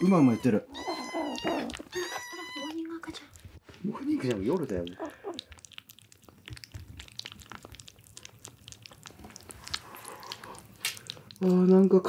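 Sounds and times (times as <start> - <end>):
kittens lapping wet food: 0.0 - 12.0.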